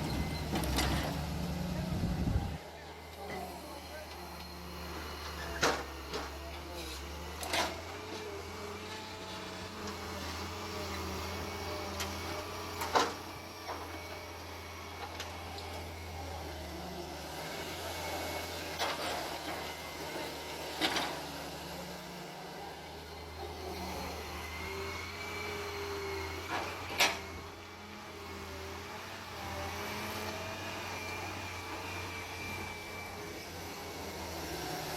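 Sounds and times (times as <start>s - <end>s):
digging machine engine humming: 0.0s - 34.9s.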